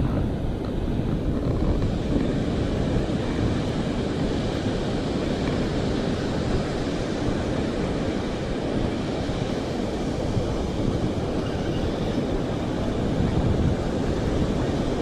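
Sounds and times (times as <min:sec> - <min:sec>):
ocean surf on a beach: 0:00.0 - 0:15.0
wind buffeting microphone: 0:00.0 - 0:15.0.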